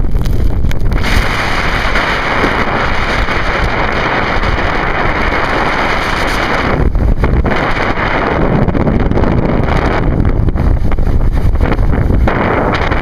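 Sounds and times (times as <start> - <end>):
wind buffeting microphone: 0.0 - 13.0
snowboard hissing over snow: 0.9 - 13.0.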